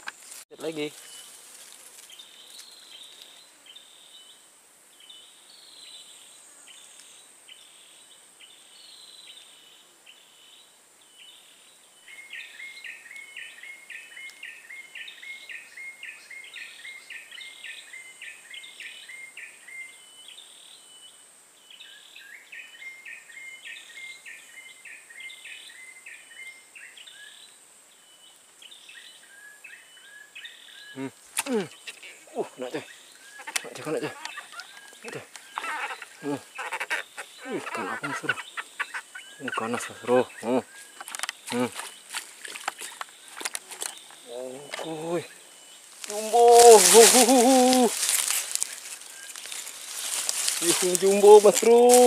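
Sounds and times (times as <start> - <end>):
high insect drone: 0.0 - 52.0.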